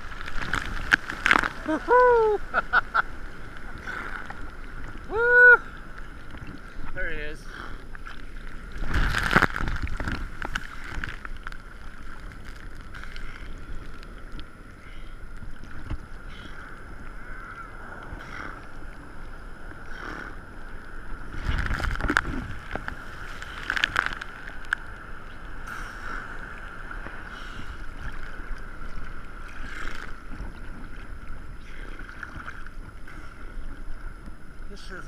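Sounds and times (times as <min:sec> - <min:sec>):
ocean water sloshing and splashing: 0:00.0 - 0:35.0.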